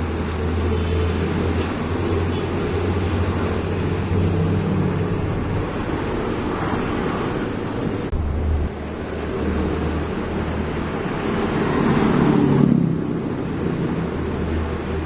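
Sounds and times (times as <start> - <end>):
diesel engine rumbling: 0.0 - 15.0
wind noise on microphone: 0.0 - 15.0.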